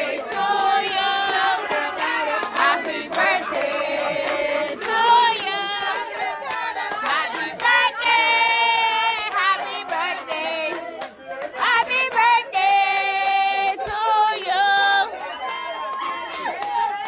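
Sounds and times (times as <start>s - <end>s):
crowd singing and shouting: 0.0s - 17.0s
sharp claps or beats: 0.0s - 17.0s.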